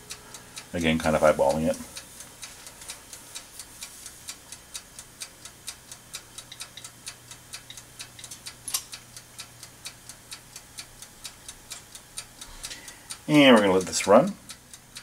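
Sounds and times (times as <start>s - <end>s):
mechanical timer ticking: 0.0s - 15.0s.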